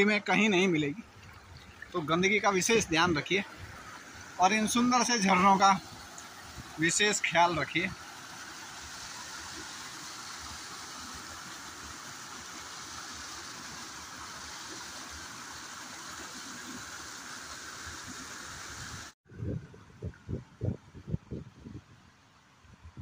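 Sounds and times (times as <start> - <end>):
stream water rushing: 0.0 - 19.2.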